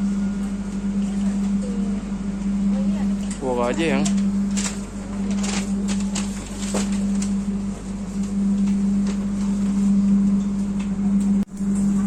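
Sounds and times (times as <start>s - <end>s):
train carriage hum: 0.0s - 12.0s.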